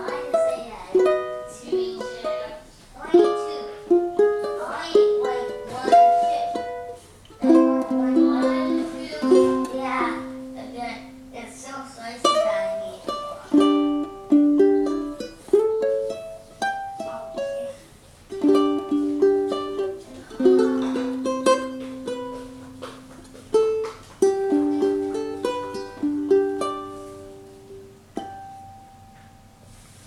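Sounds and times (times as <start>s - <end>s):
ukulele chords and melody: 0.0s - 11.4s, 12.2s - 30.0s.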